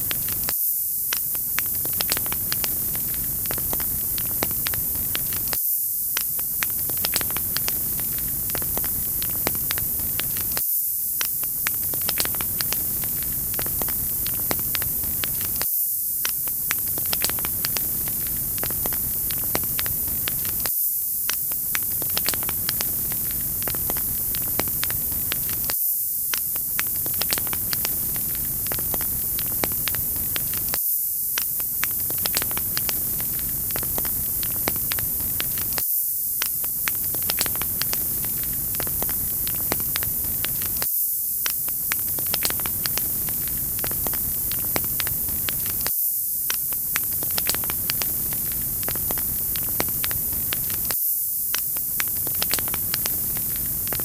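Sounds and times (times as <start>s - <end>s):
wood fire pops and snaps: 0.0s - 0.5s, 1.1s - 10.6s, 11.2s - 35.8s, 36.4s - 54.0s
fire hiss: 0.0s - 54.0s.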